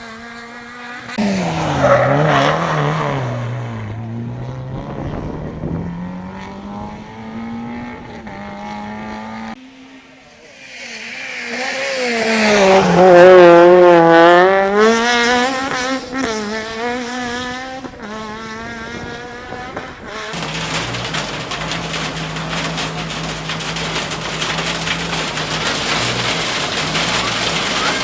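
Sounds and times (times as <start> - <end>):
rally car engine passing: 0.0 - 28.0.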